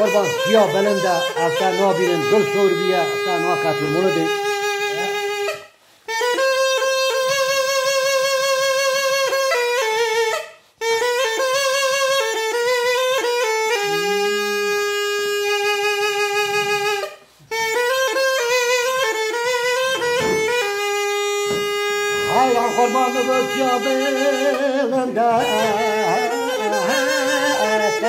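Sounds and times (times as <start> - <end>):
small wind instrument folk melody: 0.0 - 28.0.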